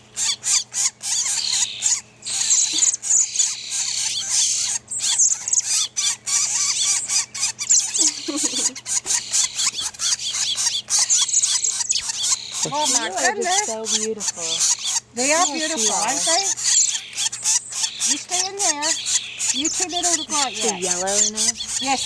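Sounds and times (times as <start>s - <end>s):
nestlings begging chatter: 0.0s - 22.0s.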